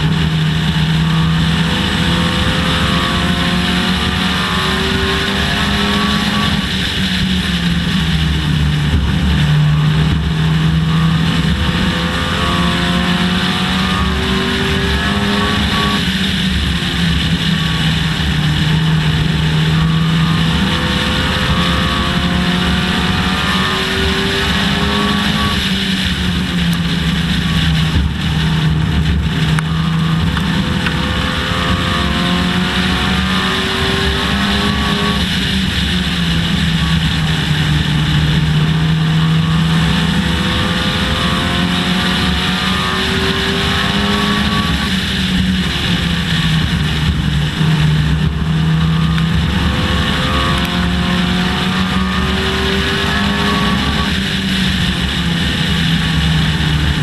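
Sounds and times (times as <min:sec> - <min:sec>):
race car engine revving: 0:00.0 - 0:57.0
wind: 0:00.0 - 0:57.0.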